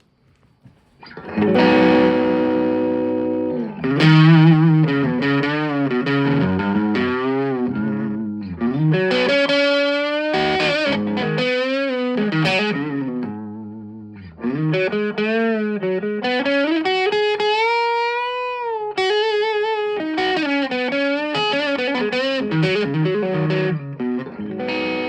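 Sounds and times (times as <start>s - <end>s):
electric guitar playing: 1.0s - 25.0s.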